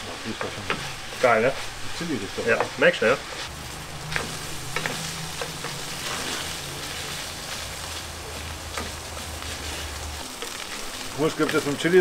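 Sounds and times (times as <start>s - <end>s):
meat sizzling in a pan: 0.0s - 12.0s
wooden spoon scraping a pan: 0.0s - 12.0s.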